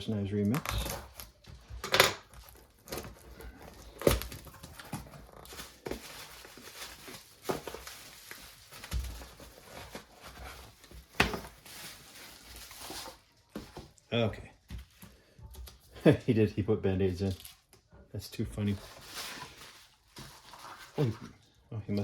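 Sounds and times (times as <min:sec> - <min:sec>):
box and packing rustling: 0:00.0 - 0:16.3, 0:18.5 - 0:22.0.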